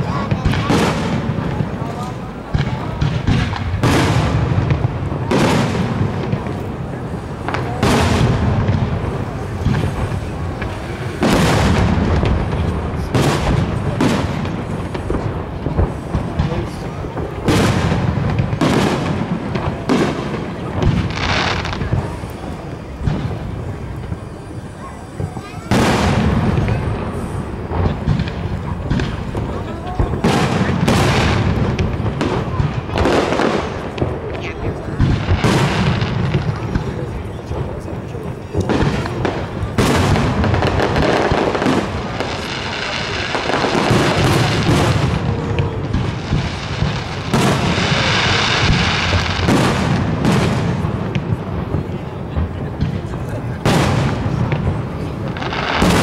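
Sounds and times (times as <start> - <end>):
firework shells booming: 0.0 - 56.0.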